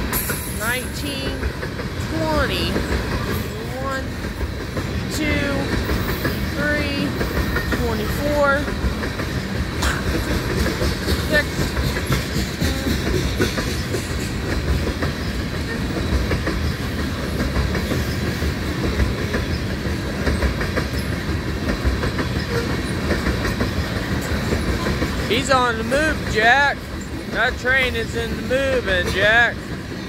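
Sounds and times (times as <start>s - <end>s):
steel wheels rumbling on rail: 0.0s - 30.0s
train cars clicking and clanking: 0.0s - 30.0s.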